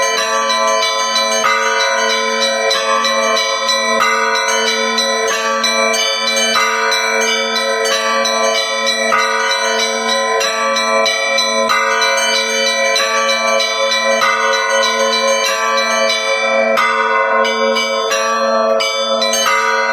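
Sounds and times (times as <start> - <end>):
church bells pealing: 0.0 - 19.9
hum of large bells: 0.0 - 19.9.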